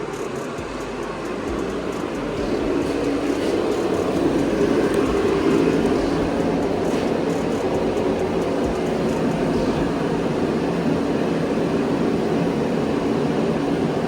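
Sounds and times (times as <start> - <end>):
space heater rushing hum: 0.0 - 14.0.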